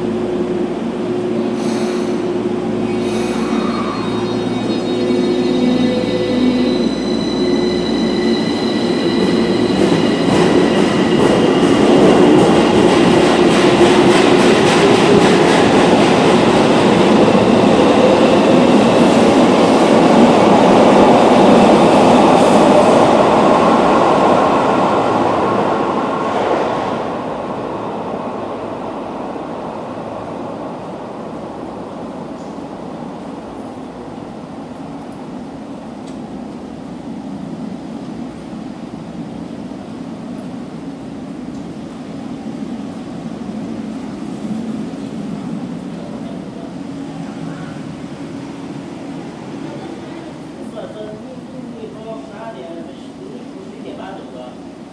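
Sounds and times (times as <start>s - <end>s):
subway train running: 0.0s - 54.9s.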